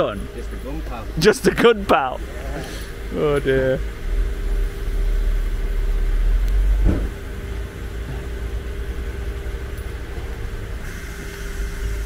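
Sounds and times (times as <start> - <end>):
heavy low rumble: 0.0 - 10.8
engine idling: 0.0 - 12.0.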